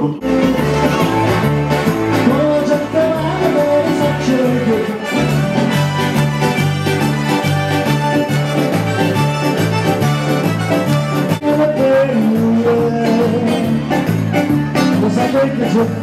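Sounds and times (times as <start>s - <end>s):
accordion dance music: 0.0s - 16.0s
alternating bass: 0.0s - 16.0s.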